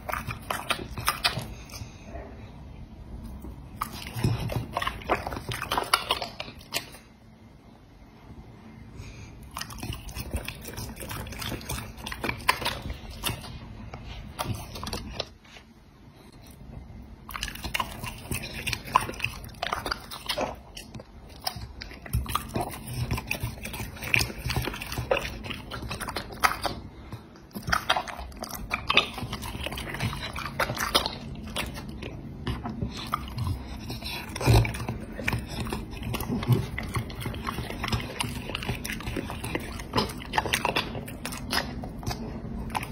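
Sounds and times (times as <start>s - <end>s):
dog chewing meat: 0.0s - 2.0s, 3.2s - 7.2s, 9.4s - 15.6s, 16.2s - 42.9s.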